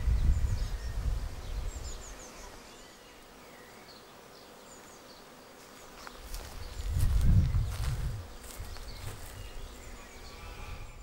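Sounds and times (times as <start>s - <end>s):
small birds chirping: 0.0s - 11.0s
honeybee swarm buzzing: 1.3s - 11.0s.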